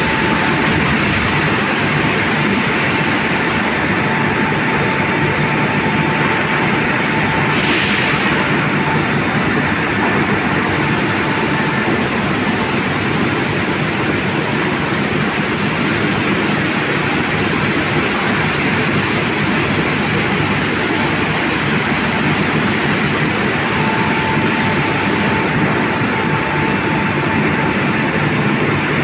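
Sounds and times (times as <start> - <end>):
overhead crane machinery noise: 0.0 - 29.0.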